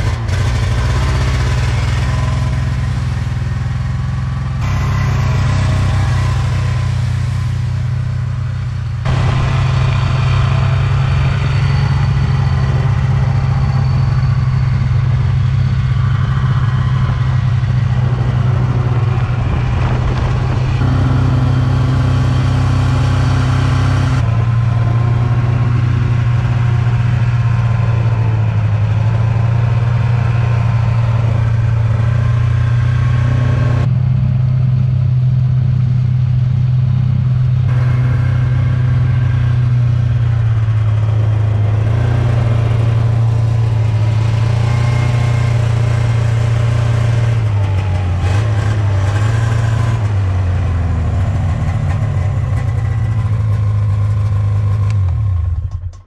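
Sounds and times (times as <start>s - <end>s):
snowmobile engine droning: 0.0s - 56.0s.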